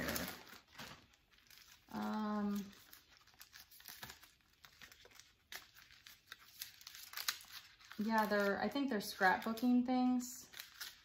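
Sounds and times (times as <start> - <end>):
paper sheets rustling: 0.0 - 11.0
plastic bag crinkling: 0.0 - 11.0.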